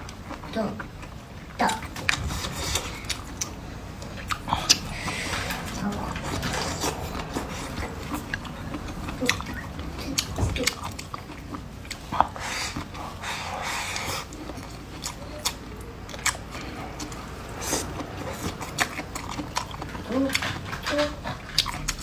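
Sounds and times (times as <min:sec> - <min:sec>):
people chewing and biting: 0:00.0 - 0:22.0.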